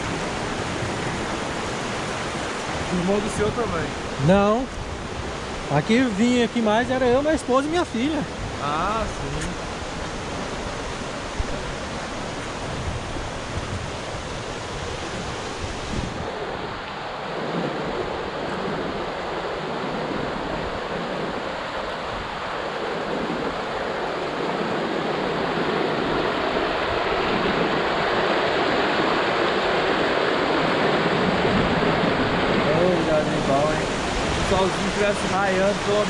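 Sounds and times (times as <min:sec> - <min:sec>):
water rushing over rapids: 0:00.0 - 0:36.0
wind buffeting microphone: 0:06.7 - 0:36.0.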